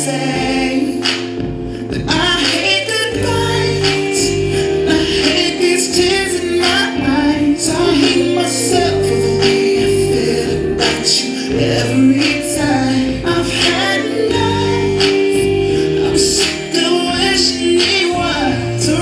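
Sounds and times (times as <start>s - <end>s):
low musical accompaniment: 0.0s - 19.0s.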